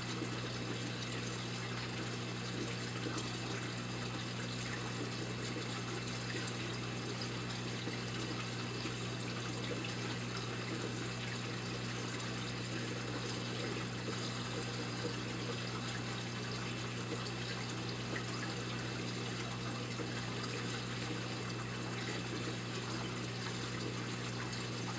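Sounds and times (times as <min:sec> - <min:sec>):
low pump hum: 0:00.0 - 0:24.9
water trickling and splashing: 0:00.0 - 0:24.9.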